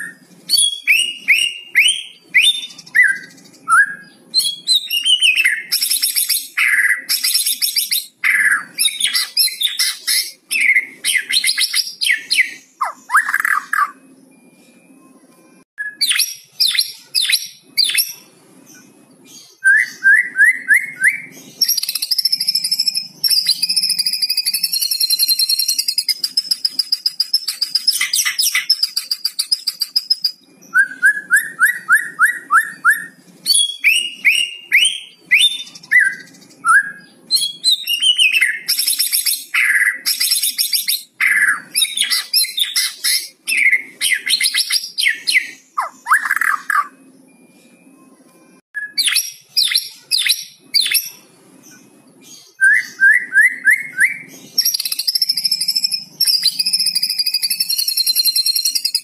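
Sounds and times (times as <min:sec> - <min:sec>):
songbird singing: 0:00.0 - 0:15.1, 0:15.8 - 0:48.1, 0:48.8 - 0:59.0.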